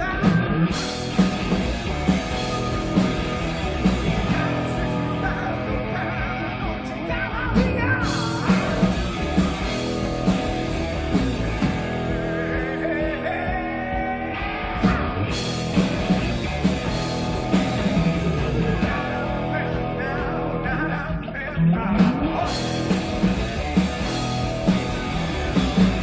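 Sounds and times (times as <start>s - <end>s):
bass: 0.0s - 26.0s
drums: 0.0s - 26.0s
electric guitars: 0.0s - 26.0s
lead vocal singing: 0.0s - 26.0s.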